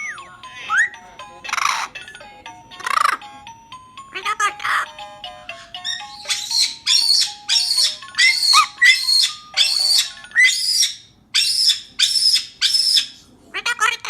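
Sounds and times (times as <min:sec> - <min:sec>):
parrot squawking: 0:00.0 - 0:02.0, 0:02.7 - 0:03.3, 0:04.1 - 0:14.0.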